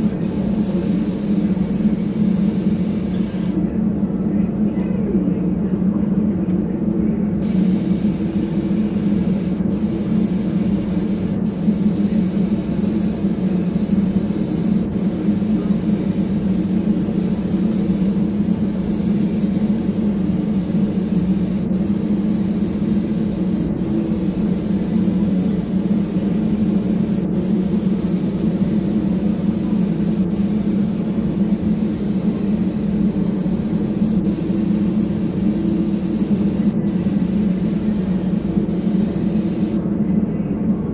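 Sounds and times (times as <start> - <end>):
paint spray gun hissing: 0.0 - 3.6, 7.4 - 39.8
steady low hum: 0.0 - 40.9.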